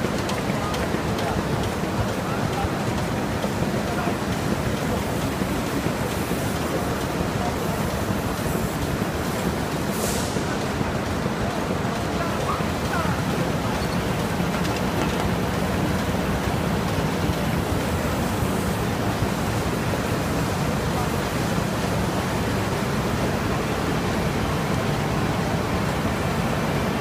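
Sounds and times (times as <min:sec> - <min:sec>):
laminator machine running: 0:00.0 - 0:27.0.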